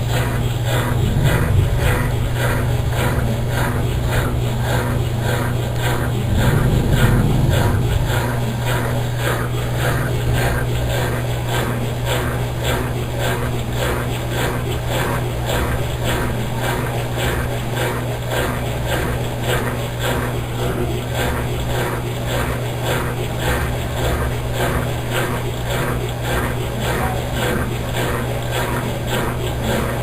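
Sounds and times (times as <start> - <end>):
washing machine motor hum: 0.0 - 30.0.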